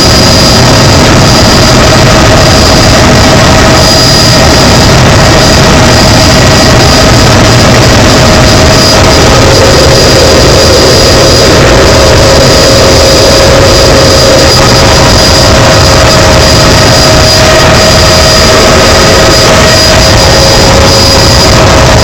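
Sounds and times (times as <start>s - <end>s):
helicopter cabin whine and rumble: 0.0s - 22.0s.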